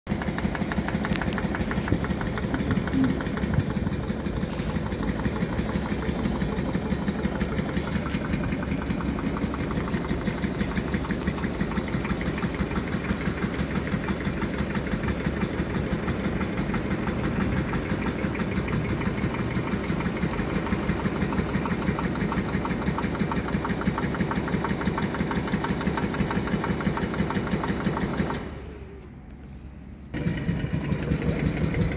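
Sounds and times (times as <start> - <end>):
bus diesel engine clatter: 0.0 - 31.9.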